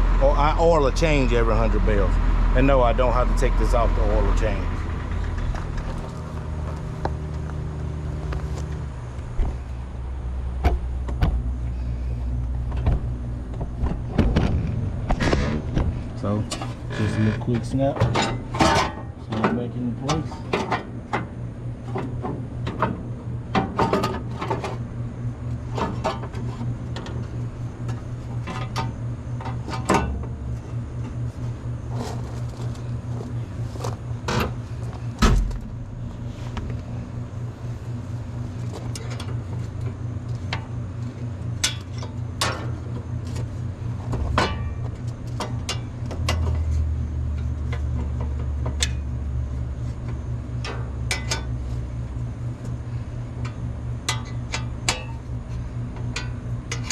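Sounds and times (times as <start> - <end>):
low engine hum: 0.0 - 56.9.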